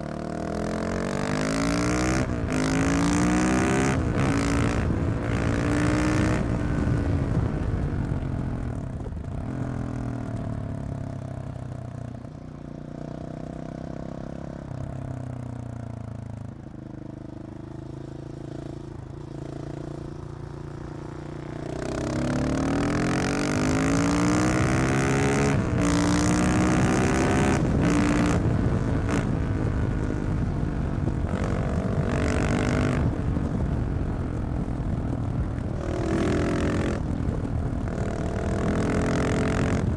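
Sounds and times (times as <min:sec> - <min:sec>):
motorcycle engine revving: 0:00.0 - 0:12.1, 0:17.2 - 0:39.9.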